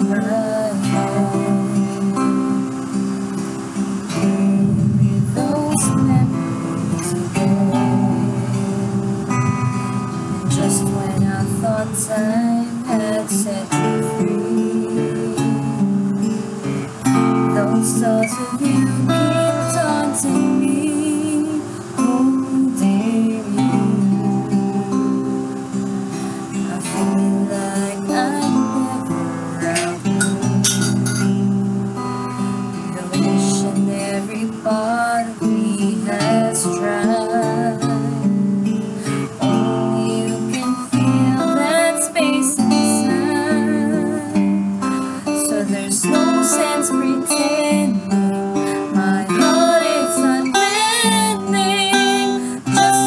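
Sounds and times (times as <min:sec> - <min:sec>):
strummed acoustic guitar: 0:00.0 - 0:53.0
woman singing slow song: 0:00.0 - 0:53.0.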